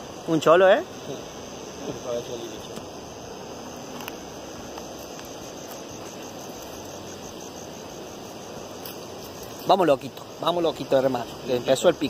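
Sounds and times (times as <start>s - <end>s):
crickets chirping: 0.0s - 12.0s
low background hiss: 0.0s - 12.0s.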